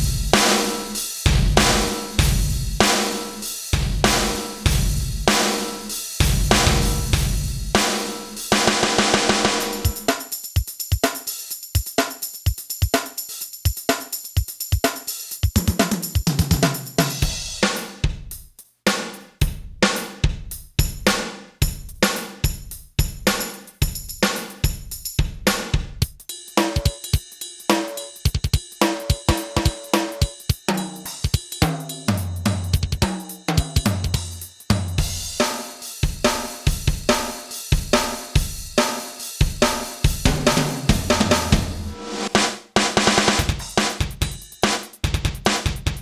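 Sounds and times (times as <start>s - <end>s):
sampled drum beat: 0.0s - 46.0s.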